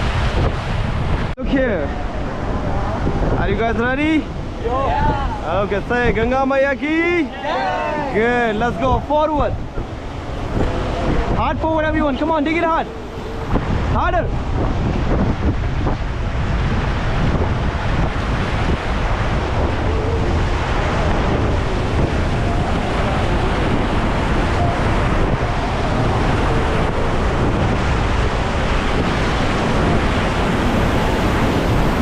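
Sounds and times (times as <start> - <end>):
whitewater roaring: 0.0 - 32.0
wind buffeting microphone: 0.0 - 32.0.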